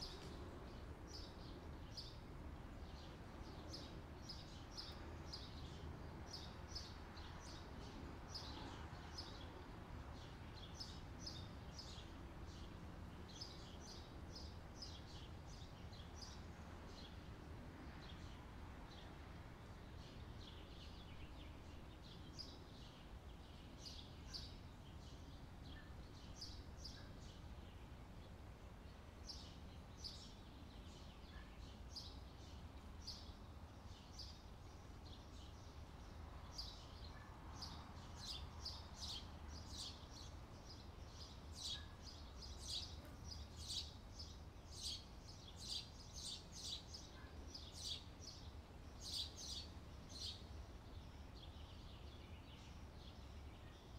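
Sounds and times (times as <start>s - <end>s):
faint bird chirping: 0.0s - 53.9s.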